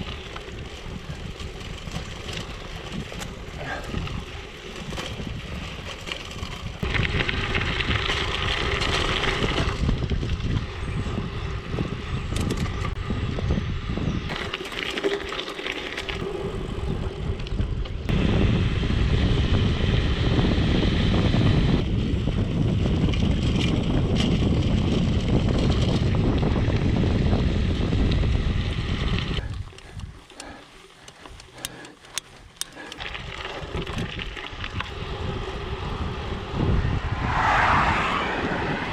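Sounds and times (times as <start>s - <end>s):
wind on microphone: 0.0s - 14.6s, 16.1s - 30.6s, 31.3s - 38.9s
bike tyres rolling over gravel: 0.0s - 38.9s.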